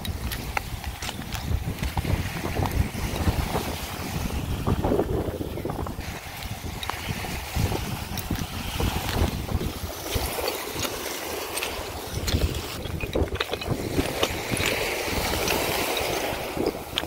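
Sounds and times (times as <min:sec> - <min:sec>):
footsteps on coral rubble: 0:00.0 - 0:17.0
small waves lapping: 0:00.0 - 0:17.0
wind buffeting microphone: 0:00.0 - 0:17.0.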